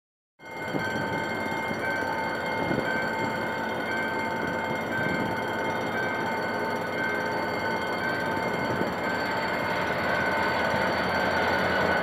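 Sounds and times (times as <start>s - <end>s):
crossing warning bell ringing: 0.4s - 12.0s
diesel locomotive rumble: 0.5s - 12.0s.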